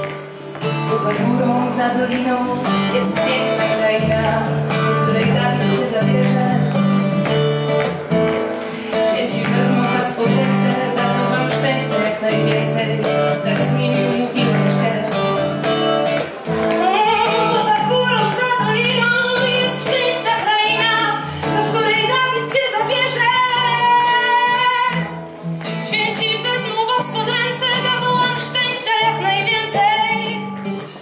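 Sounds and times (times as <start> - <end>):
instrumental song with guitar rhythm: 0.0 - 31.0.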